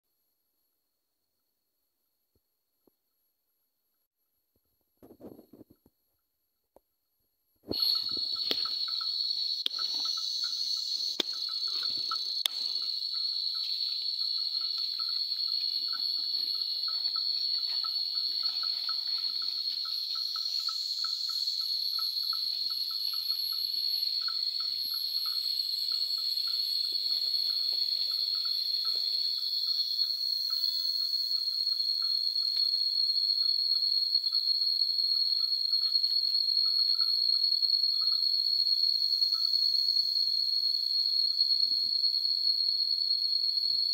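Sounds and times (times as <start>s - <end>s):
insects droning: 7.1s - 43.9s.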